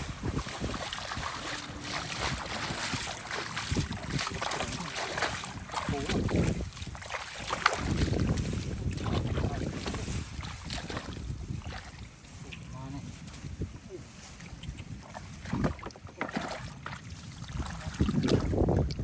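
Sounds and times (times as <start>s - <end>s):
water splashing and sloshing: 0.0s - 19.0s
wind buffeting microphone: 0.0s - 19.0s.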